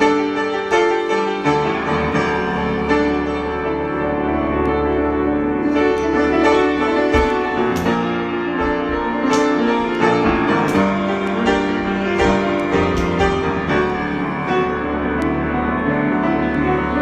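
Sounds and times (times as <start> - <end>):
solo piano improvisation: 0.0 - 17.0.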